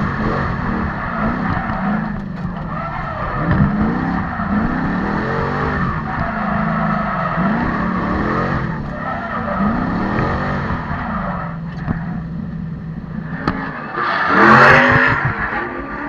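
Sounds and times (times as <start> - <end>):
car engine revving: 0.0 - 16.0
tyre screech: 0.2 - 12.3, 13.3 - 16.0.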